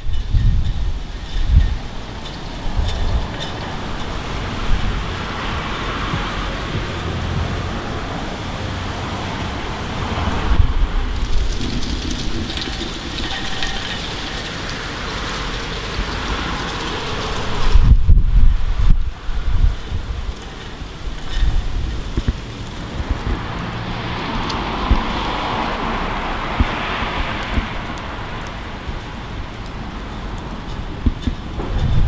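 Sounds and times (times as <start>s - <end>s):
wind buffeting microphone: 0.0s - 32.0s
wind gusting through trees: 0.0s - 32.0s.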